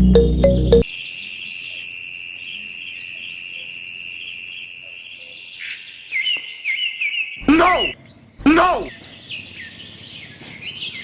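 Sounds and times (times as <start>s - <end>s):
faint outdoor ambience: 0.4s - 11.0s.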